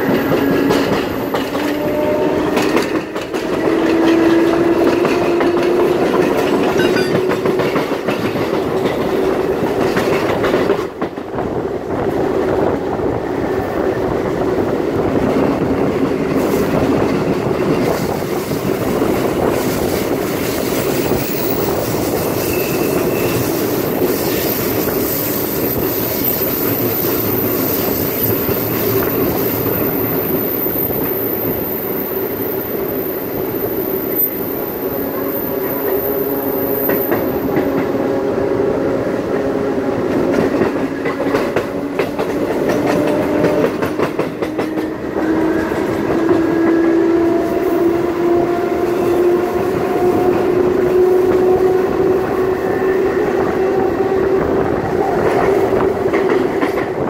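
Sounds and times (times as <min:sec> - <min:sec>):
train rumble: 0:00.0 - 0:57.0
train wheels clacking on rails: 0:00.0 - 0:57.0.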